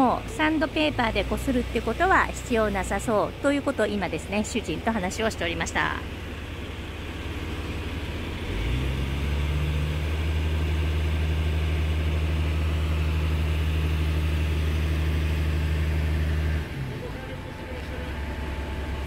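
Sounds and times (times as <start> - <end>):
hoist engine humming: 0.0 - 19.0.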